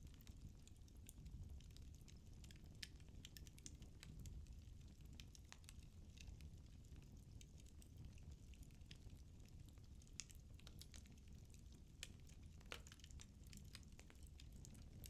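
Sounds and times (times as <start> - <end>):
firewood crackling in fireplace: 0.0 - 15.0.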